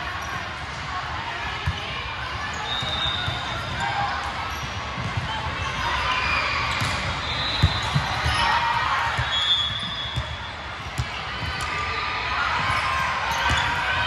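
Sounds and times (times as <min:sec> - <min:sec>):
echoing sports hall hubbub: 0:00.0 - 0:14.0.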